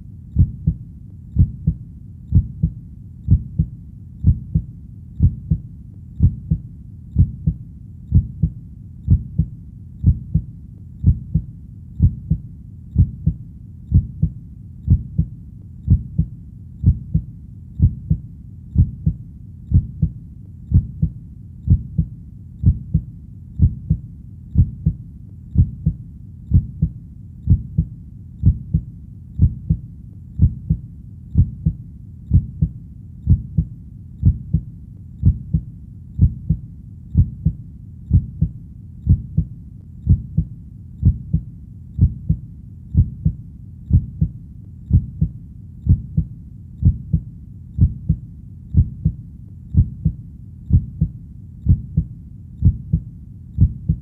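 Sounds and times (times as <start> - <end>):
human heartbeat: 0.3 - 54.0.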